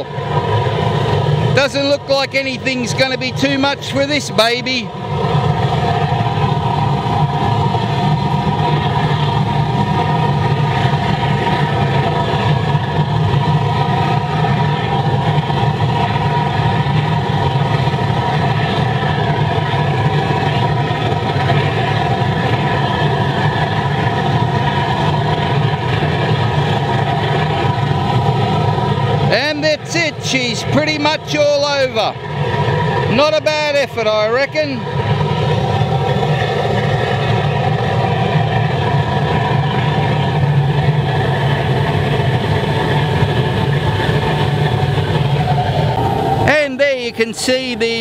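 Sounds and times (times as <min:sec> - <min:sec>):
steady tones: 0:00.0 - 0:23.1, 0:23.7 - 0:42.6, 0:43.2 - 0:48.0
oil burner flame roaring: 0:00.0 - 0:48.0.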